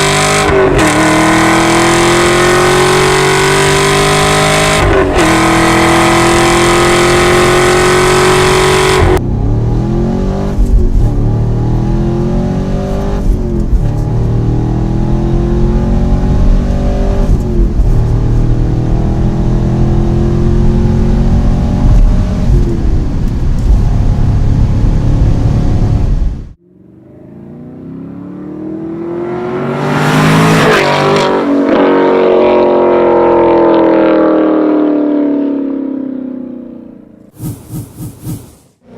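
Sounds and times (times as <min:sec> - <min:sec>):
car engine accelerating through gears: 0:00.0 - 0:26.2, 0:26.9 - 0:38.6.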